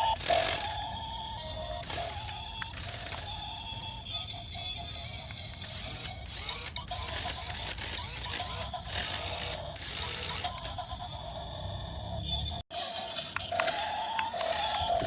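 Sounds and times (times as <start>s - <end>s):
small electric motors whirring: 0.0s - 12.6s, 13.5s - 15.0s.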